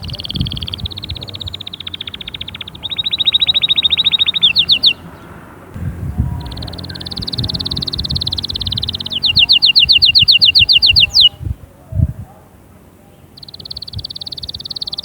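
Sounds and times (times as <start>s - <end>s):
canary trilling: 0.0s - 11.4s, 13.1s - 15.0s.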